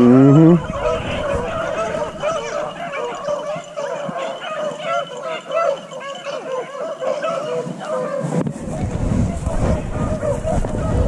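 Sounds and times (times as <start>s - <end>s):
dogs baying: 0.0s - 11.0s.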